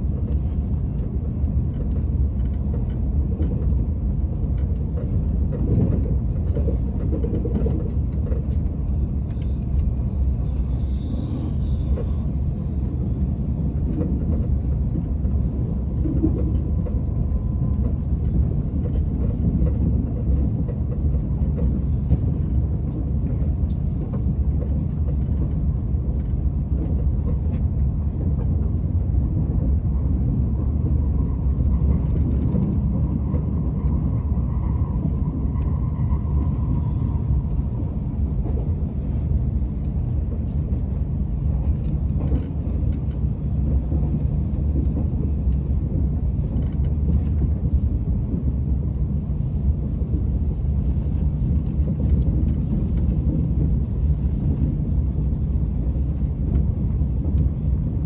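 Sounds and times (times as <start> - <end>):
high-speed train rumble: 0.0 - 58.0.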